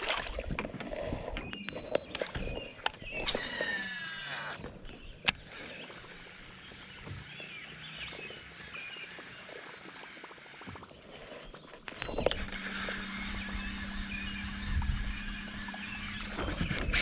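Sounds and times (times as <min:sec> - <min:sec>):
birds chirping and whistling: 0:01.0 - 0:09.4, 0:11.3 - 0:17.0.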